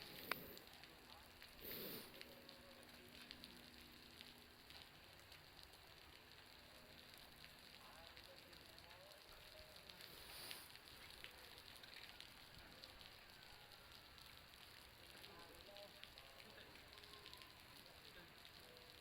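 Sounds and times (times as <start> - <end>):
bonfire crackling: 0.0 - 19.0
water dripping from roof: 0.0 - 19.0.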